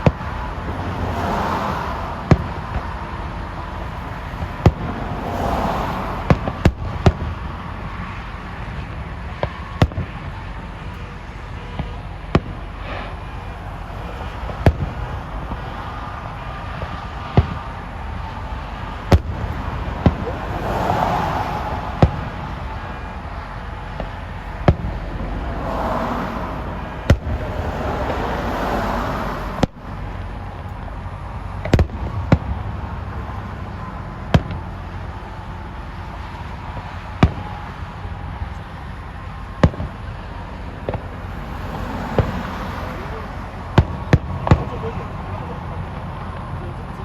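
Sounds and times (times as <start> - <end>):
fireworks banging: 0.0 - 47.0
fireworks crackling: 0.0 - 47.0.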